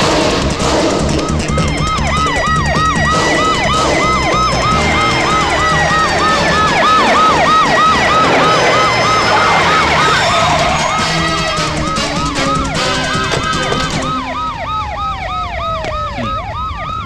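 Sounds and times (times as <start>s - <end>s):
background music: 0.0s - 14.7s
police sirens yelping: 0.0s - 17.0s.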